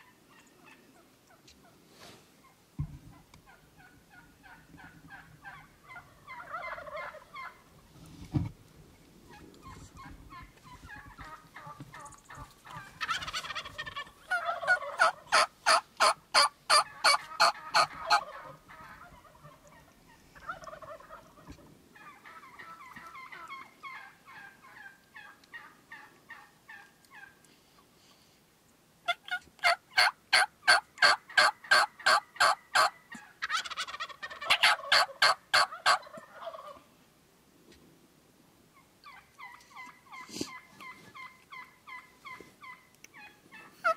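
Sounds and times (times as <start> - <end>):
turkey yelping: 0.0 - 1.6, 2.4 - 7.8, 9.3 - 27.4, 29.0 - 36.8, 38.7 - 43.9
turkey clucking: 0.0 - 1.8, 2.4 - 7.8, 9.3 - 27.4, 29.0 - 36.9, 38.7 - 43.9.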